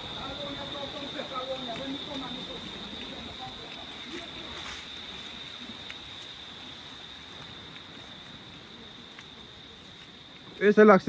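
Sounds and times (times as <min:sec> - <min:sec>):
faint outdoor background noise: 0:00.0 - 0:11.0
insects chirring: 0:00.0 - 0:11.0.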